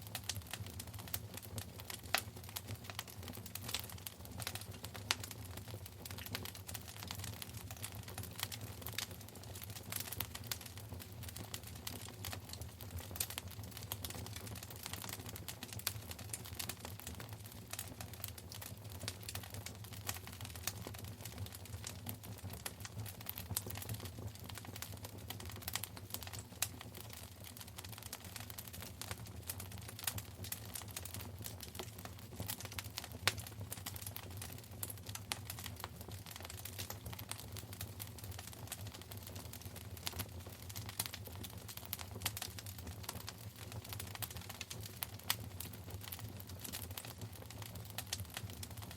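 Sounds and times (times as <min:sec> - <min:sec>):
fire crackling in fireplace: 0:00.0 - 0:48.9.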